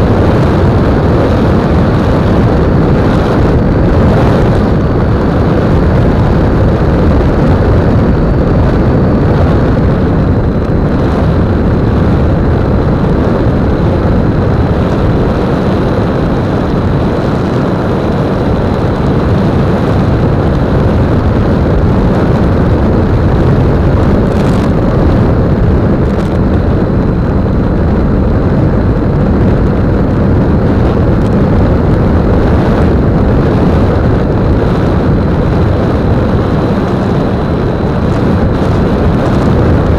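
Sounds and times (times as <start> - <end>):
wind rush and propeller noise: 0.0 - 39.9.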